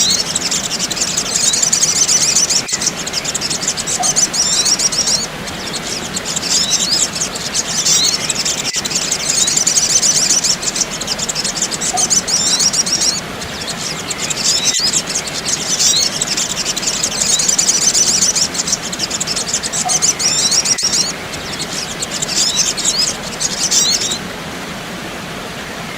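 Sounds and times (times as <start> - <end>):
steady hiss: 0.0 - 25.9
sunbirds chattering: 0.0 - 25.9.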